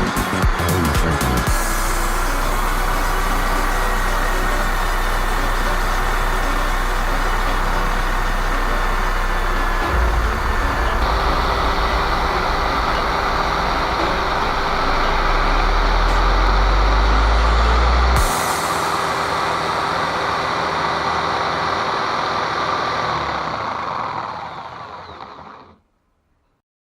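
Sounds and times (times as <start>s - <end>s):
deep rumble: 0.0s - 23.9s
electric drill motor running: 0.0s - 25.8s.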